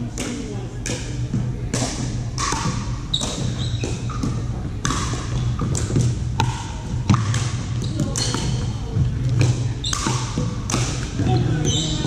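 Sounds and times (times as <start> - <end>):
balls bouncing on wooden floor: 0.1 - 12.0
paddles striking plastic ball: 1.7 - 11.4.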